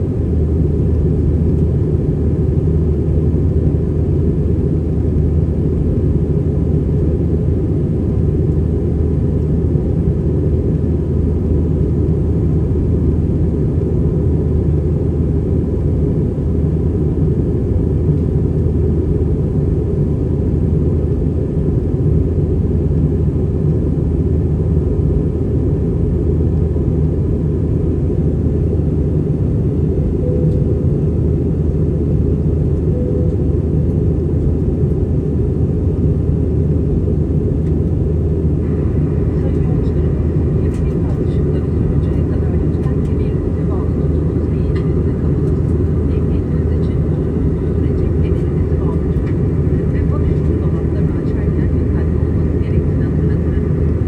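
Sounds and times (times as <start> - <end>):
airliner cabin low rumble: 0.0 - 54.0.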